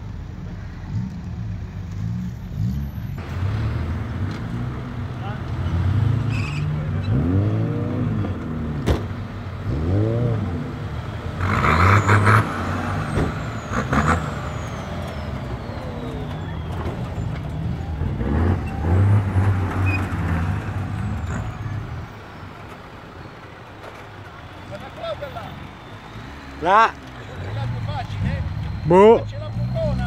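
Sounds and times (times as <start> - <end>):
off-road vehicle engine revving: 0.6 - 30.0.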